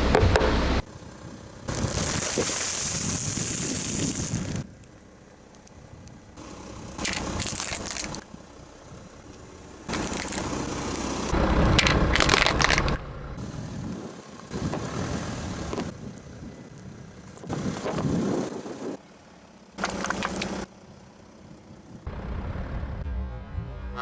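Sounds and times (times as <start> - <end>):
car engine running slowly: 0.0 - 24.0.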